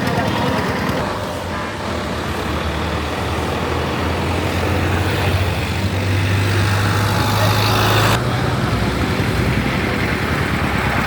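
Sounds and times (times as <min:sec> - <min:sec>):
dense background noise: 0:00.0 - 0:11.0
vehicle engine humming: 0:00.0 - 0:11.0.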